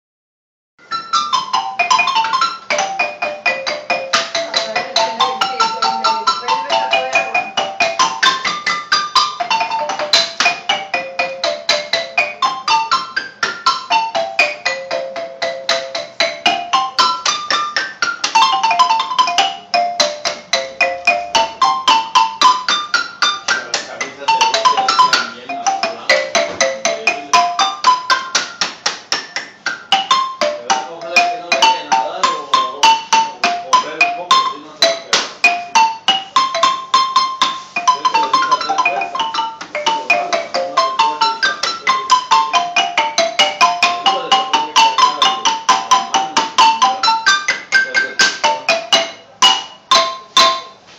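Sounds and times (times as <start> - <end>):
marimba scales: 0.8 - 50.9.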